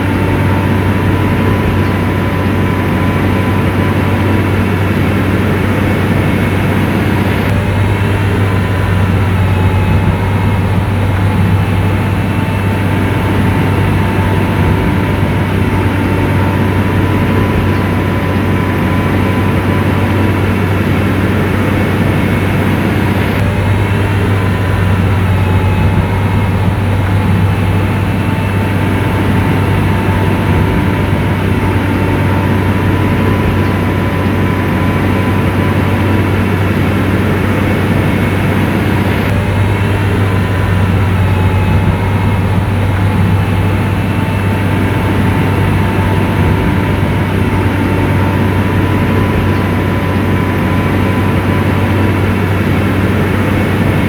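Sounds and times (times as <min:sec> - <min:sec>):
diesel engine humming: 0:00.0 - 0:54.0
thin steady whine: 0:00.0 - 0:54.0.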